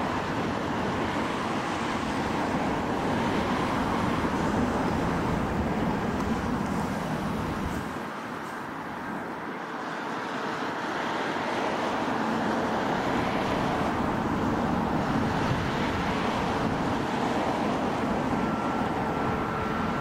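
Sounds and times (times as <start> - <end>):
jet engines rushing: 0.0 - 8.8, 10.6 - 20.0.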